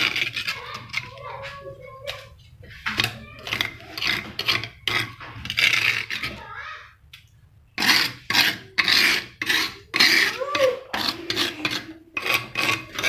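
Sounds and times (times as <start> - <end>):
metal spoon scraping stone mortar: 0.0 - 6.5, 7.8 - 13.0.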